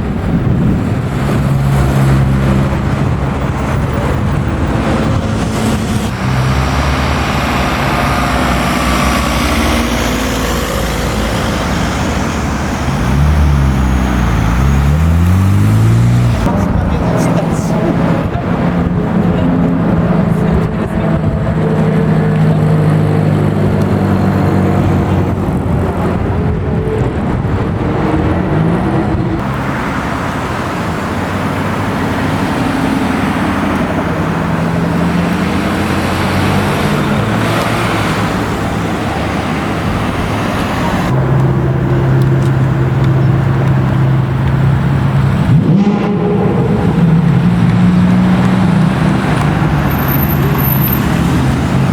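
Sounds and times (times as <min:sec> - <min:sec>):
car engines revving and passing: 0:00.0 - 0:51.9.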